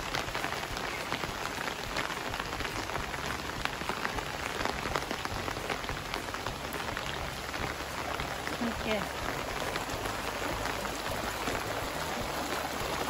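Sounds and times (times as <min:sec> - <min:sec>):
raindrops ticking: 0:00.0 - 0:13.0
steady rain hiss: 0:00.0 - 0:13.0.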